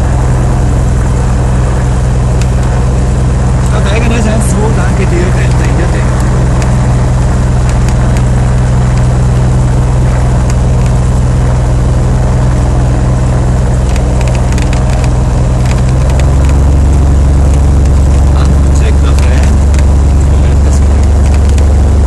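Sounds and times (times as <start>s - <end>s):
aircraft engine drone in cabin: 0.0s - 22.0s.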